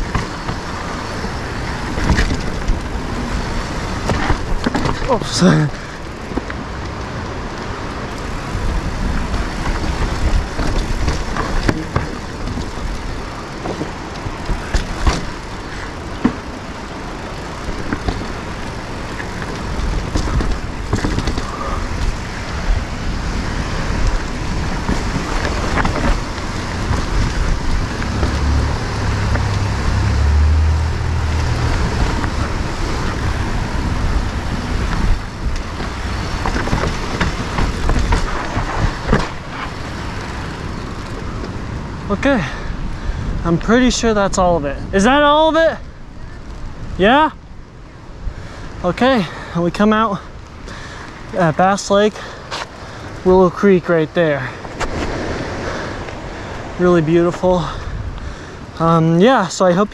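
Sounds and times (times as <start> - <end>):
bike clicks and rattles: 0.0 - 30.2, 30.9 - 59.9
bike tyres rolling over dirt: 0.0 - 59.9
wind rumbling on microphone: 0.0 - 59.9.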